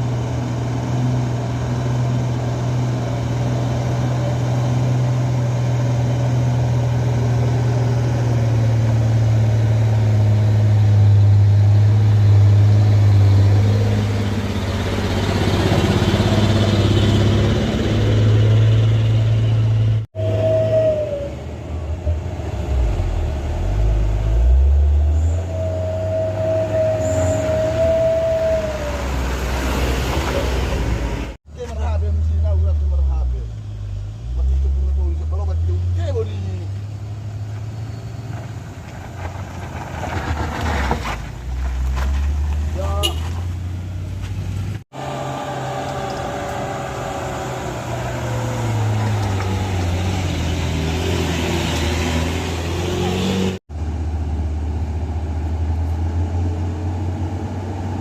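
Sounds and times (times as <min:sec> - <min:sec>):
diesel truck engine labouring: 0:00.0 - 0:58.0.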